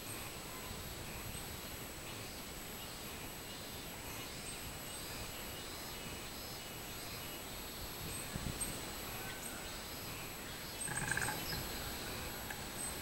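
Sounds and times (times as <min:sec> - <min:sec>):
cicadas chorus: 0:00.0 - 0:13.0.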